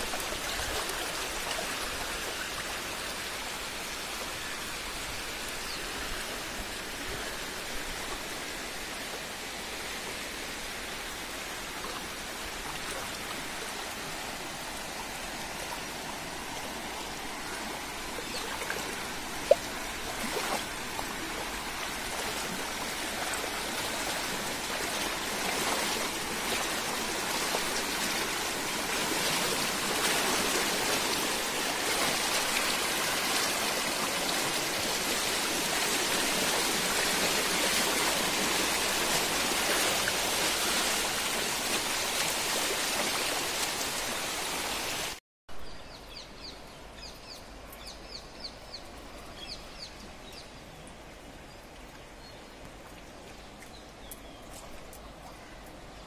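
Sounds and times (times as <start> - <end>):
floodwater rushing: 0.0 - 45.2
quiet water background: 0.0 - 56.0.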